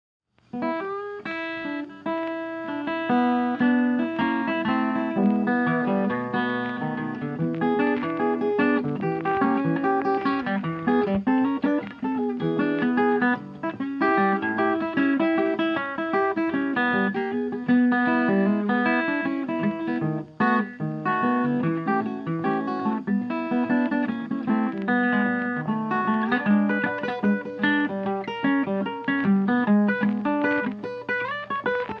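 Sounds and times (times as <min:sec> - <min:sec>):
plucked guitar music: 0:00.5 - 0:32.0.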